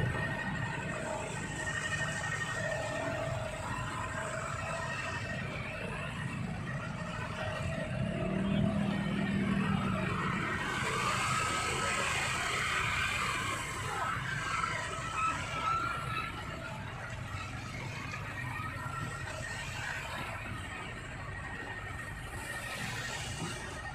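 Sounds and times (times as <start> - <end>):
motorcycle and bus engines in traffic: 0.0 - 23.9.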